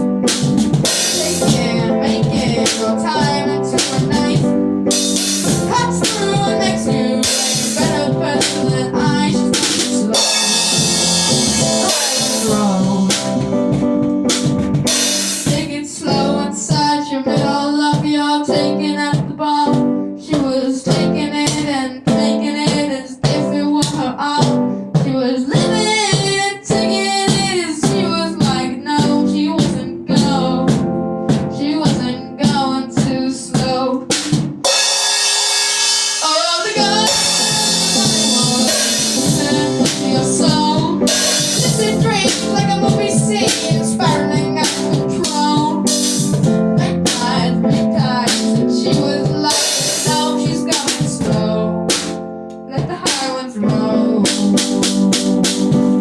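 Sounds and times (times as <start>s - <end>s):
person singing: 0.0s - 34.1s, 34.7s - 52.0s, 52.7s - 55.4s
drum kit beat: 0.0s - 56.0s.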